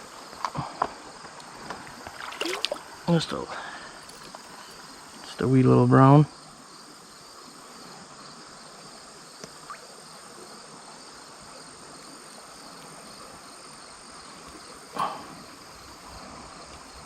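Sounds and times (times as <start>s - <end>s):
background hiss: 0.0s - 17.0s
insects trilling: 0.0s - 17.0s.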